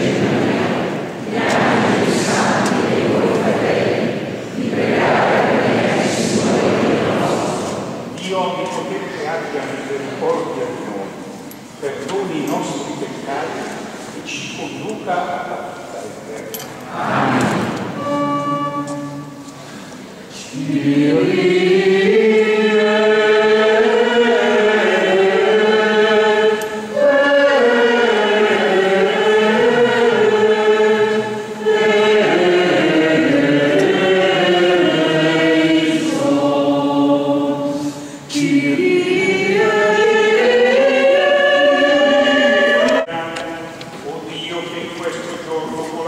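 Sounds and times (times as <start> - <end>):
choir singing a chant: 0.0 - 11.2, 16.8 - 45.4.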